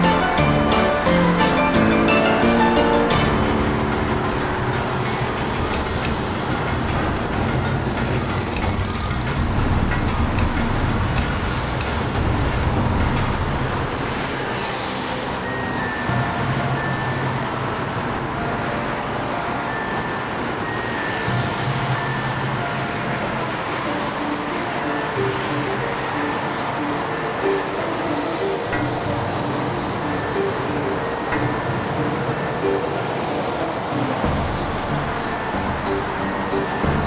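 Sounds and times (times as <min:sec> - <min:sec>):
motorway traffic passing: 0:00.0 - 0:37.0.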